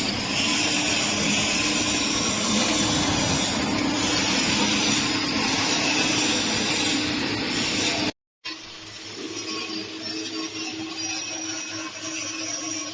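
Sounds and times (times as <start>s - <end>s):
band saw humming and hissing: 0.0s - 12.9s.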